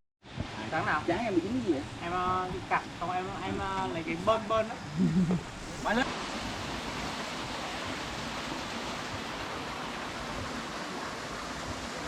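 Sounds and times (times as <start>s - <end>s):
flowing water rushing: 0.2s - 12.0s.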